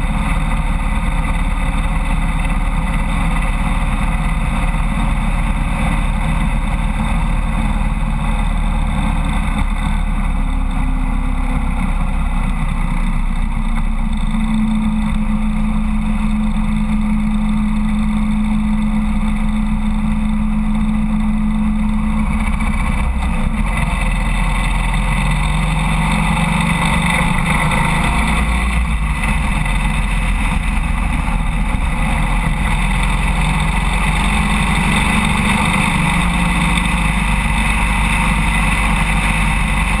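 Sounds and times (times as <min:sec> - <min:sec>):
motorcycle engine cruising: 0:00.0 - 0:40.0
road noise: 0:00.0 - 0:40.0.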